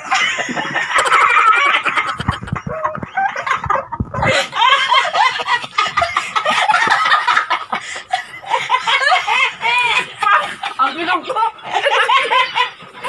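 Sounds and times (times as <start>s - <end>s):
women laughing hard: 0.0s - 13.0s.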